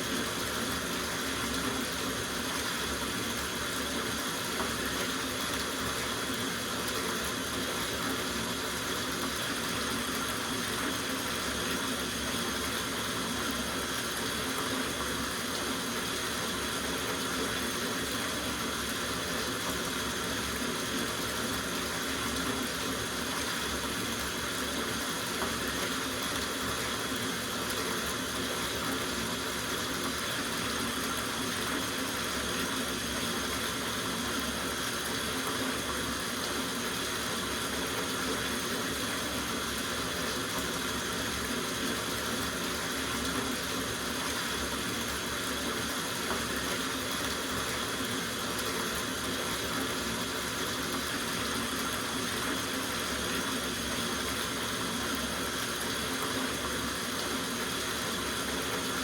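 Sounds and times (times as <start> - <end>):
faucet water running into tub: 0.0 - 59.0.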